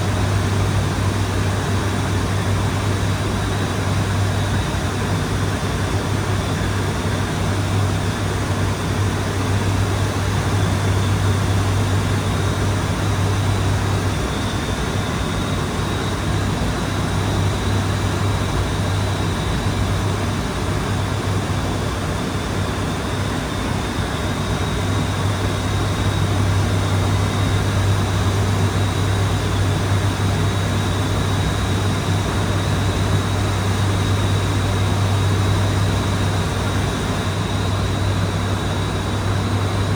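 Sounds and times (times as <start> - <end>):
propeller drone: 0.0 - 39.9.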